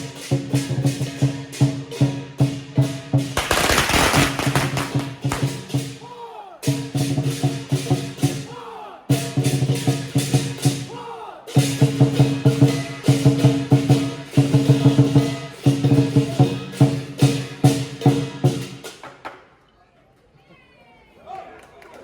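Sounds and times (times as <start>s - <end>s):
drum with gong and cymbals: 0.0s - 19.0s.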